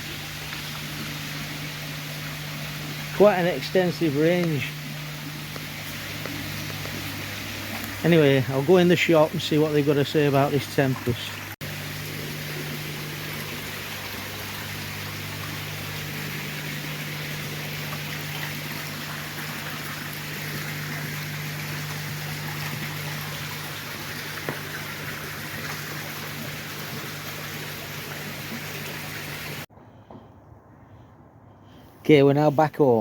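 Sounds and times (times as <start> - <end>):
running water: 0.0 - 29.7.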